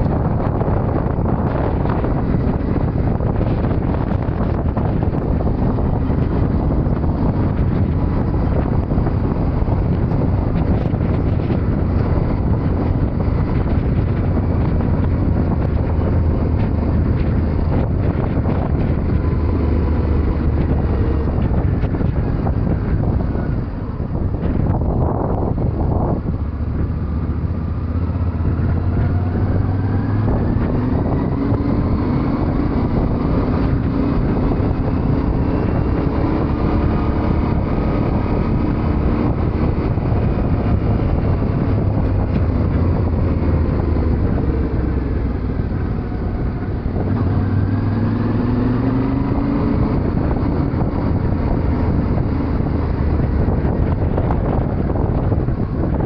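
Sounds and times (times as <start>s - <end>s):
motorcycle engine revving: 0.0s - 56.0s
wind buffeting microphone: 0.0s - 56.0s.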